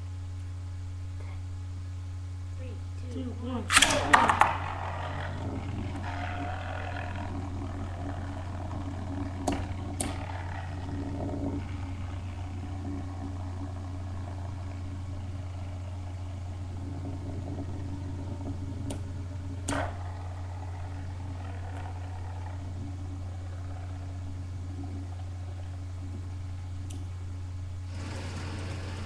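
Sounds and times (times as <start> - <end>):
low hum: 0.0 - 29.0
spinning tops whirring: 3.6 - 27.2, 27.8 - 29.0.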